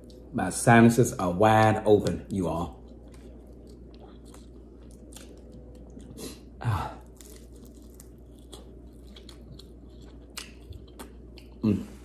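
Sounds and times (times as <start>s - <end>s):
chewing and crunching: 2.0s - 11.6s.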